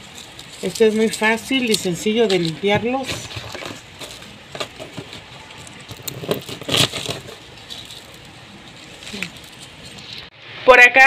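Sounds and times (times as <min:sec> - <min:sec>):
dried chile pods crackling: 0:00.0 - 0:10.3.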